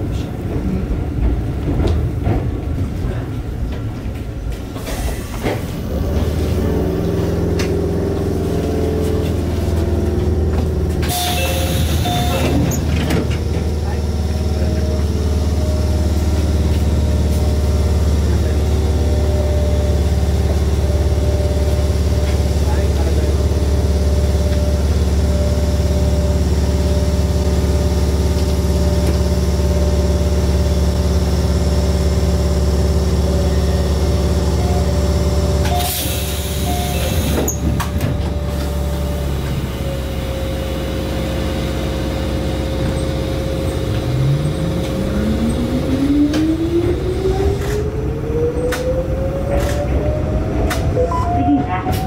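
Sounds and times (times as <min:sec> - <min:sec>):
train equipment humming: 0:00.0 - 0:52.0.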